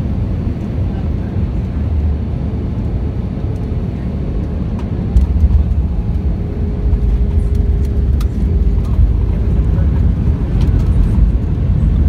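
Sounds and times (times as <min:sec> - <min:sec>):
low roar of engines and wheels: 0:00.0 - 0:12.0
steady hum: 0:00.0 - 0:12.0.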